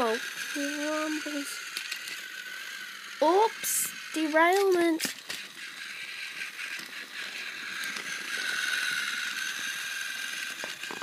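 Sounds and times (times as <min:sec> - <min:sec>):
toy motor and gears whirring: 0:00.0 - 0:11.0.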